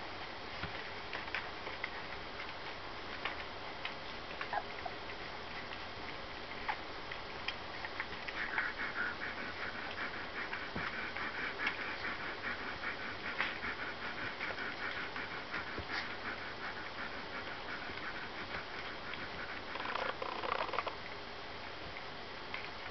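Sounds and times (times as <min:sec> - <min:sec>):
puppies suckling wet clicks: 0:00.1 - 0:22.9.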